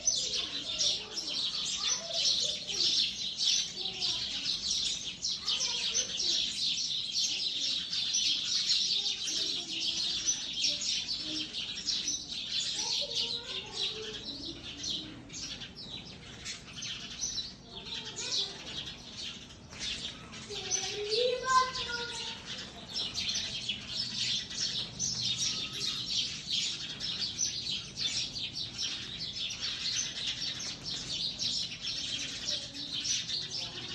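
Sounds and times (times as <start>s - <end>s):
sparrows chirping: 0.0s - 33.9s.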